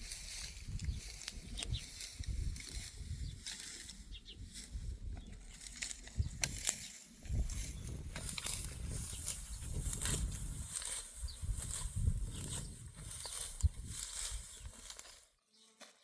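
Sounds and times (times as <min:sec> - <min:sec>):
wind on microphone: 0:00.0 - 0:14.8
dry stalks rustling and snapping: 0:00.0 - 0:16.0.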